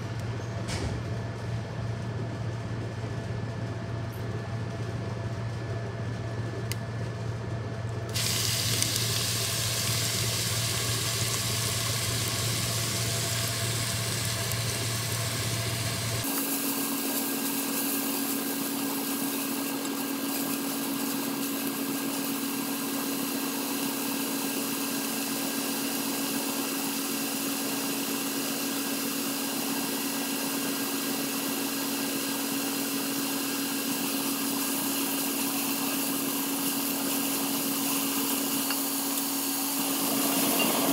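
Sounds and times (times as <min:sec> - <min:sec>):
motor-like hum: 0:00.0 - 0:40.9
onions sizzling in oil: 0:08.1 - 0:40.9.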